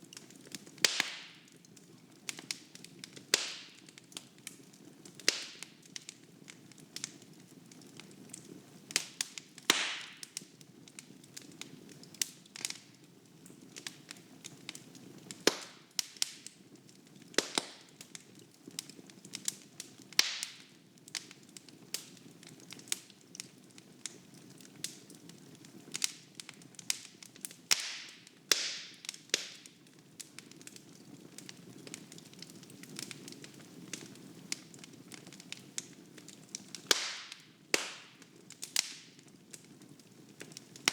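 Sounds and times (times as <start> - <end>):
wood fire crackling: 0.0 - 40.9
burning logs snapping: 0.1 - 40.9.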